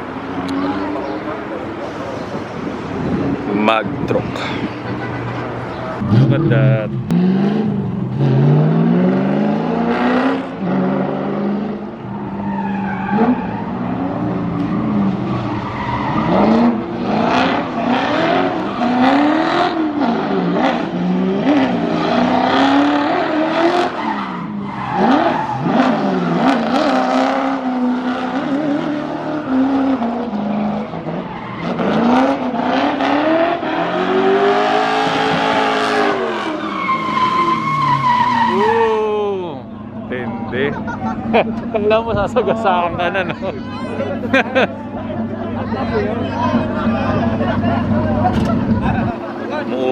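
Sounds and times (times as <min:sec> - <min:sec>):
sports cars driving past revving: 0:00.0 - 0:49.9.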